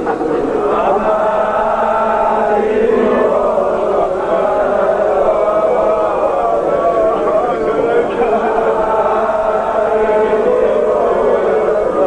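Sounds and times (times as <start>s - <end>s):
men chanting a devotional song: 0.0s - 12.0s.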